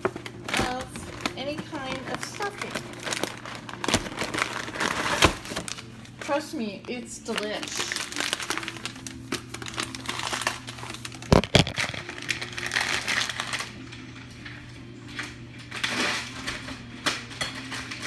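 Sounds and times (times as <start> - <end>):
packet crinkling and rustling: 0.0 - 6.5, 7.2 - 18.0.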